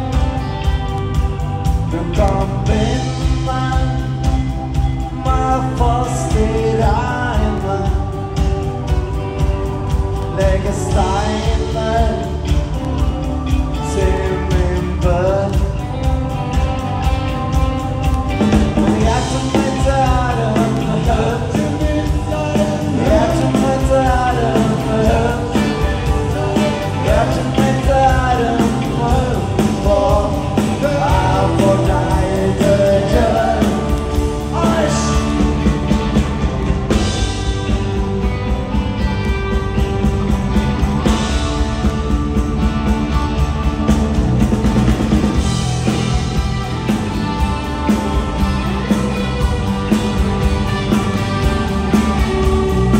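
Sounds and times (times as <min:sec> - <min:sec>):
rock band playing: 0:00.0 - 0:52.9.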